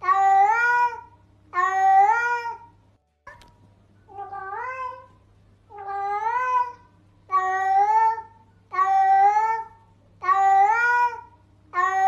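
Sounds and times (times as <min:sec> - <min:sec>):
cat meowing: 0:00.0 - 0:02.7, 0:04.1 - 0:05.1, 0:05.7 - 0:12.0.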